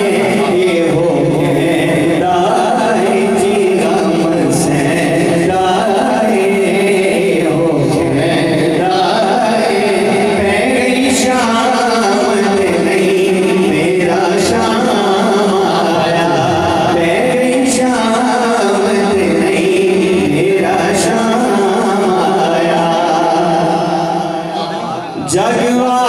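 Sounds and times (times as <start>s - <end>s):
man singing lead: 0.0s - 26.0s.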